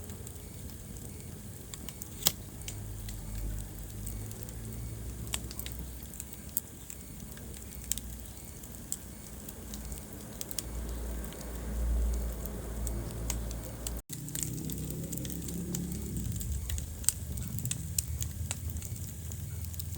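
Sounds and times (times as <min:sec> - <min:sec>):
burning logs crackling: 0:00.0 - 0:19.9
low rumble of flames: 0:00.0 - 0:19.9.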